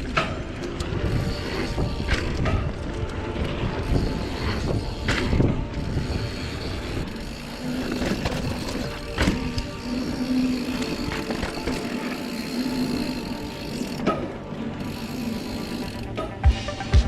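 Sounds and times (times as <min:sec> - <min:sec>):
bike chain clicking and rattling: 0:00.0 - 0:16.4
bike tyres rumbling on trail: 0:00.0 - 0:16.6.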